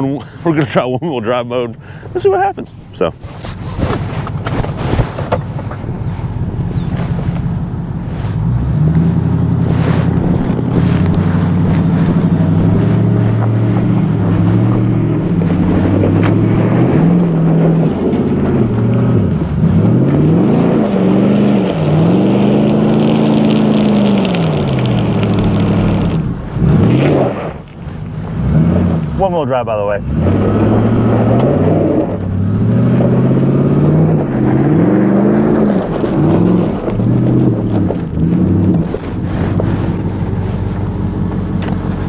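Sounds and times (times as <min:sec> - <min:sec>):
truck engine revving under load: 0:02.9 - 0:42.0.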